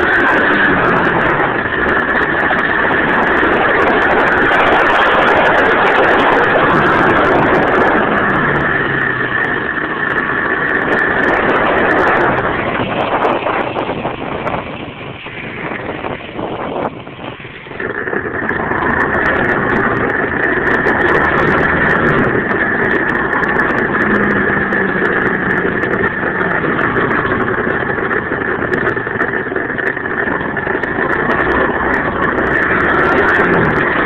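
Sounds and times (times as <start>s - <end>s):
high whine: 0.0s - 34.0s
motorbike engine running: 0.0s - 34.0s.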